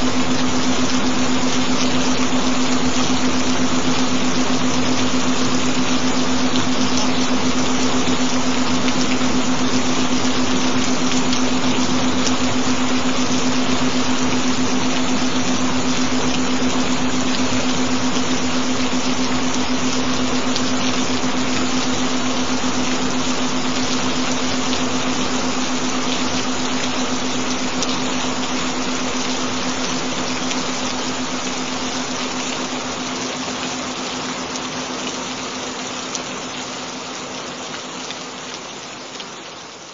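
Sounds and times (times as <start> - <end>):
constant low pure tone: 0.0 - 36.3
gentle rain hiss: 0.0 - 39.9.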